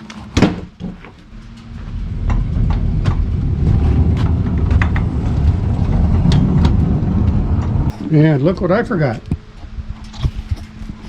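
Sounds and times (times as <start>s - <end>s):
sawmill engine running: 0.0s - 9.9s.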